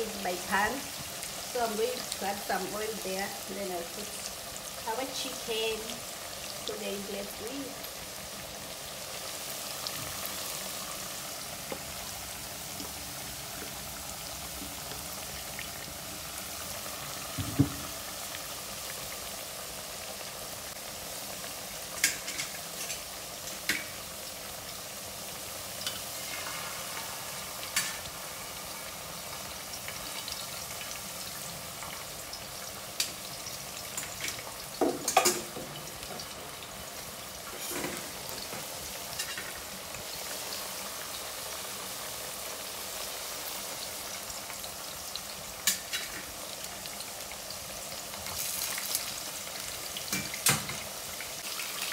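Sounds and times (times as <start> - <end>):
potatoes deep-frying in oil: 0.0 - 51.9.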